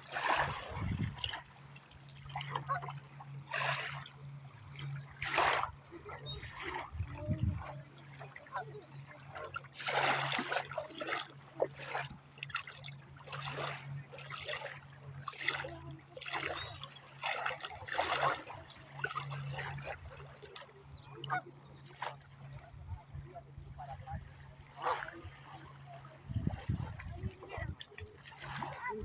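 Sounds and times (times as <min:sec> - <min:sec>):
water splashing and trickling: 0:00.0 - 0:29.0.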